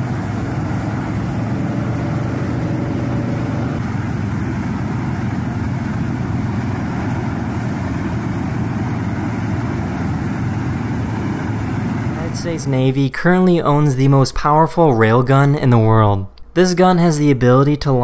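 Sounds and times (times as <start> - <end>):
tractor engine hum: 0.0 - 18.0.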